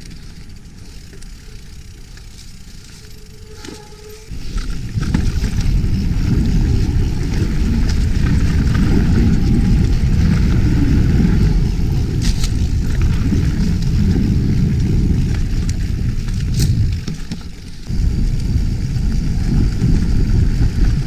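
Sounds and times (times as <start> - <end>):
bike rattling: 0.0 - 21.0
tyres rumbling over dirt trail: 0.0 - 21.0
wind buffeting microphone: 4.0 - 21.0.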